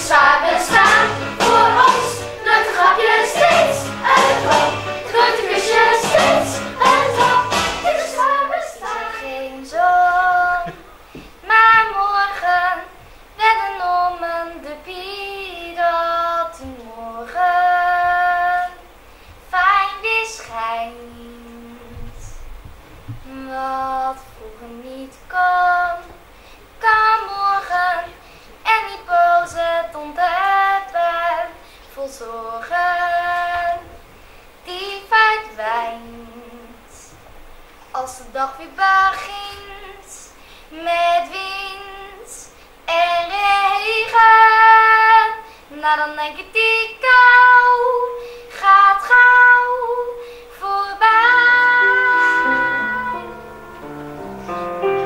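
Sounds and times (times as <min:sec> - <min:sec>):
girl singing into microphone: 0:00.0 - 0:53.9.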